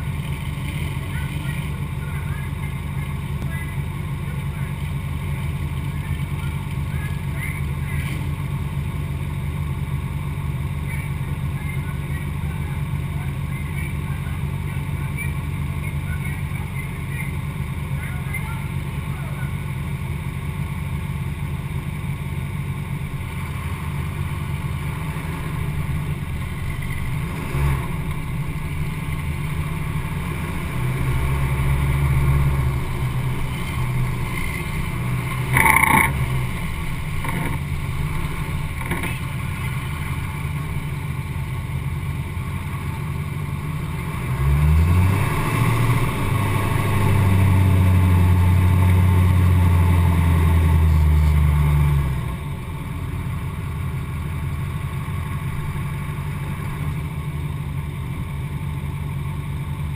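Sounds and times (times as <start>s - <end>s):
diesel pickup engine revving: 0.0s - 59.9s.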